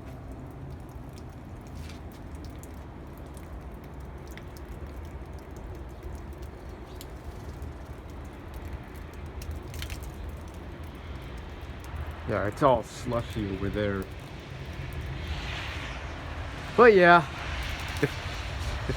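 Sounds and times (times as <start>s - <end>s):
low outdoor rumble: 0.0s - 18.9s.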